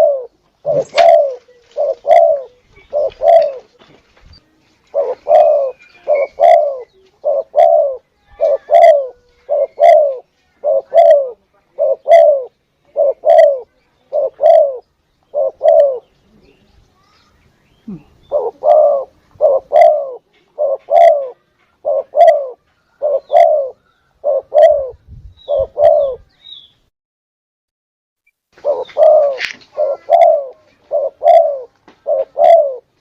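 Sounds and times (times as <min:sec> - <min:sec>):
dove cooing: 0:00.0 - 0:03.8, 0:04.9 - 0:16.2, 0:17.8 - 0:26.3, 0:28.6 - 0:33.0.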